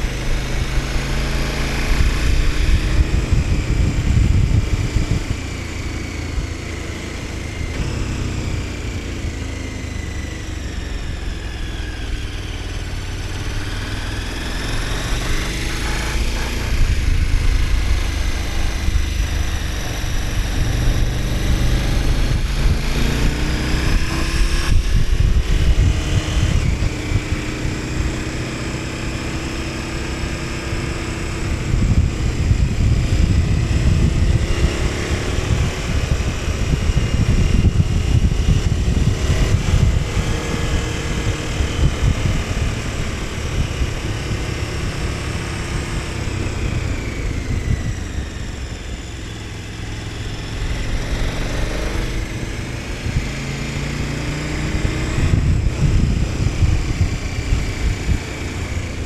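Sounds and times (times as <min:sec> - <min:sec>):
motorcycle engine revving: 0:00.0 - 0:59.0
wind rumbling on microphone: 0:00.0 - 0:59.0.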